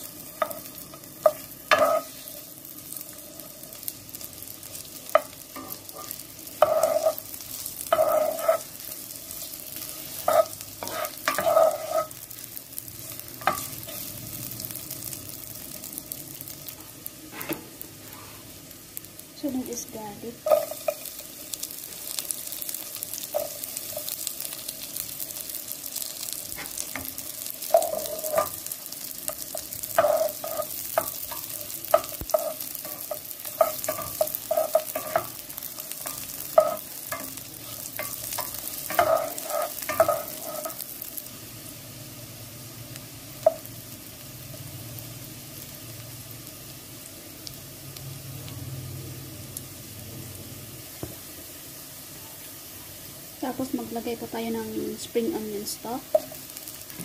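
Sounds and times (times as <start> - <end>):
garlic sizzling in a pan: 0.0 - 57.0.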